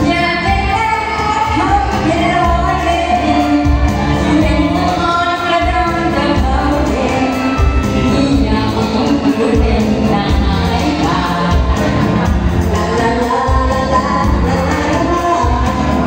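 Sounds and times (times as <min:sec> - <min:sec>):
karaoke backing track: 0:00.0 - 0:16.0
women singing into microphones: 0:00.0 - 0:16.0.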